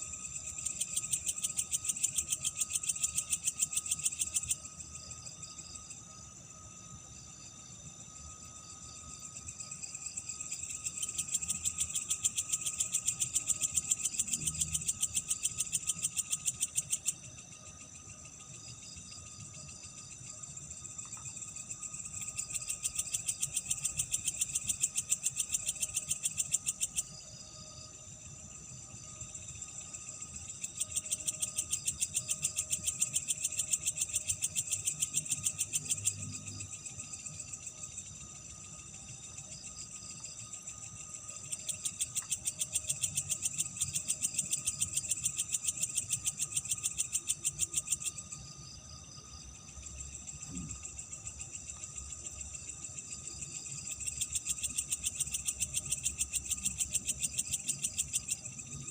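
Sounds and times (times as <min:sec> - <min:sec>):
chorus of night insects: 0:00.0 - 0:58.9
insect pulsed trill: 0:00.0 - 0:58.9.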